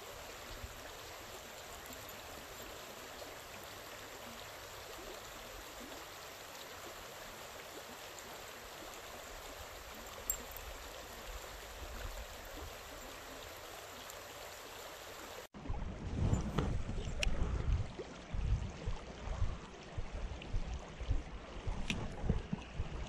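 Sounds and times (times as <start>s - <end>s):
water running over rocks: 0.0s - 23.0s.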